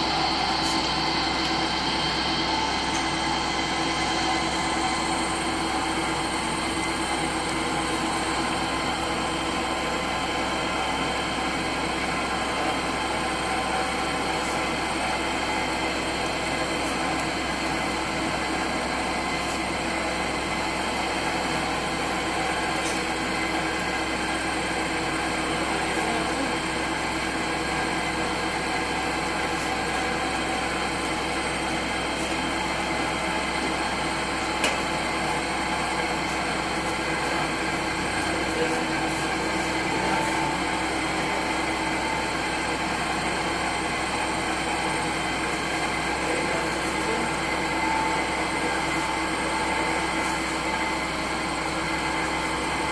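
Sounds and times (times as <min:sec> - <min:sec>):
dough mixer motor droning: 0:00.0 - 0:52.9.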